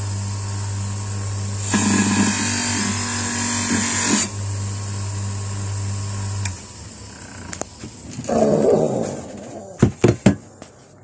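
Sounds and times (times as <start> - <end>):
bench grinder motor hum: 0.0 - 9.5.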